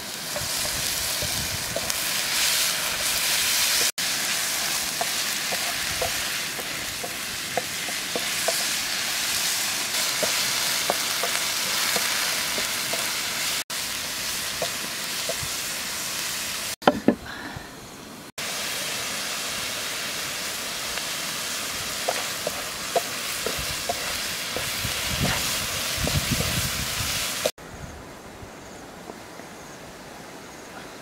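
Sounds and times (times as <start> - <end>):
snails sizzling in a wok: 0.0 - 16.8, 18.4 - 27.6.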